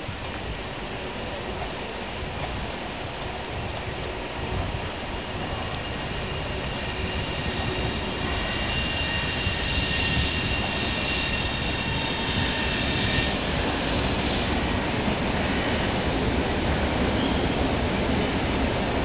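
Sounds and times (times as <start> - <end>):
high steady whine: 0.0 - 19.0
train wheels rumbling: 0.0 - 19.0.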